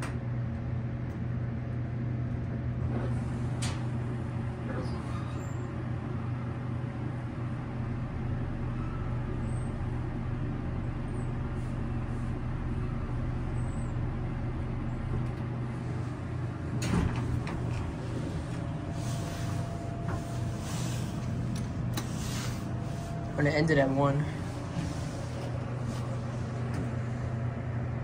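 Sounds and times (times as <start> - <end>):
elevator low hum: 0.0 - 28.0.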